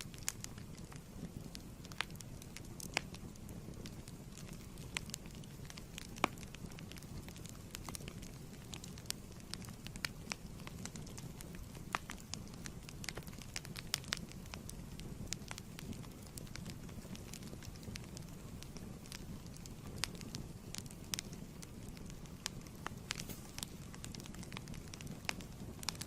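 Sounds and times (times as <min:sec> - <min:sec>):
low rumble of flame: 0:00.0 - 0:26.0
wood fire crackling and popping: 0:00.0 - 0:26.0.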